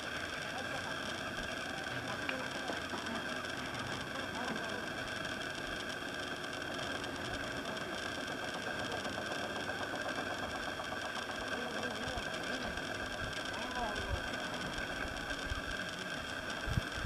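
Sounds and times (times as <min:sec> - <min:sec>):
small motor running: 0:00.0 - 0:17.0.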